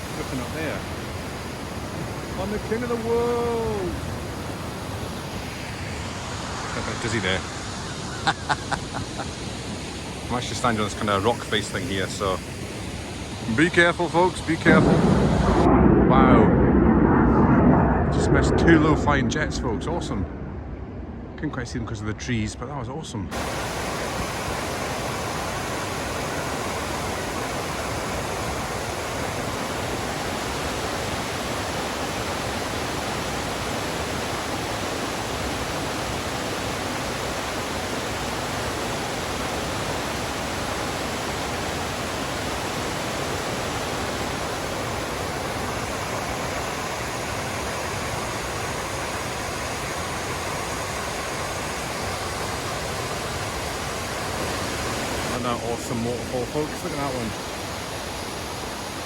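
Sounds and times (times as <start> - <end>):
waterfall rushing: 0.0 - 15.7, 23.3 - 59.0.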